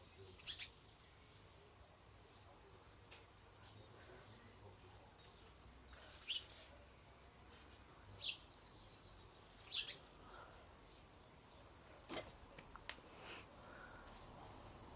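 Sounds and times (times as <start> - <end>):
faint background hiss: 0.0 - 14.9.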